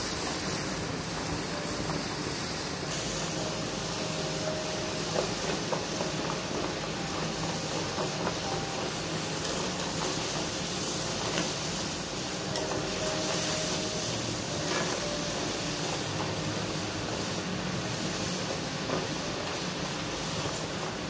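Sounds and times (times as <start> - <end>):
fries sizzling in hot oil: 0.0 - 21.0.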